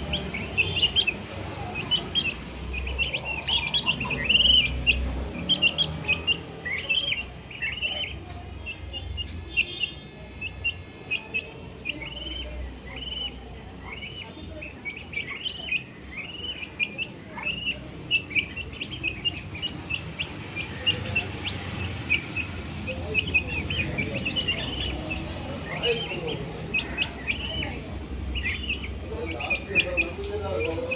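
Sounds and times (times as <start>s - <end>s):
baby chicks peeping: 0.0s - 30.9s.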